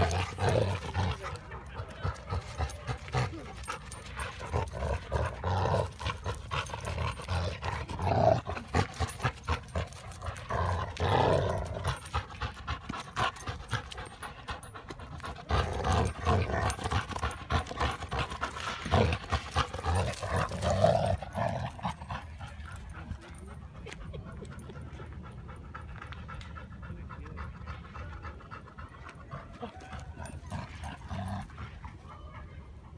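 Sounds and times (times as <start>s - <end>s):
dogs growling: 0.0s - 32.1s
dogs panting: 0.0s - 32.9s.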